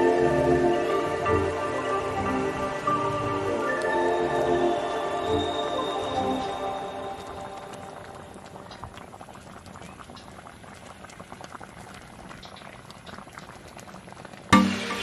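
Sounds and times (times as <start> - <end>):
water boiling with pops: 0.0 - 15.0.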